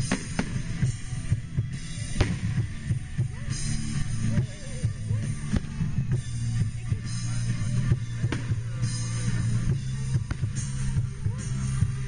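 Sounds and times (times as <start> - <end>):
bass line: 0.0 - 12.0
drums: 0.0 - 12.0.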